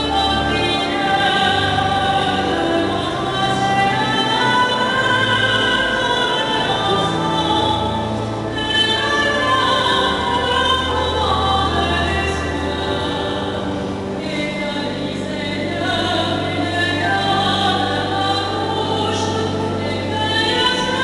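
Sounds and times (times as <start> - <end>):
choir singing sacred music: 0.0 - 21.0.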